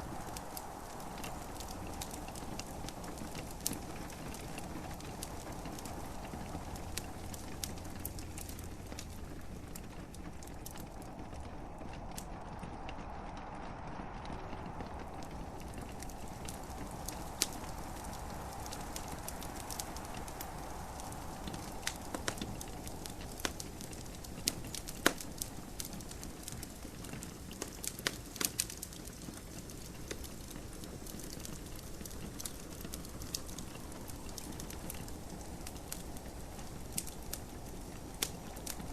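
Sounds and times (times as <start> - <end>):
gentle rain hiss: 0.0 - 38.9
wood fire crackling: 0.0 - 38.9.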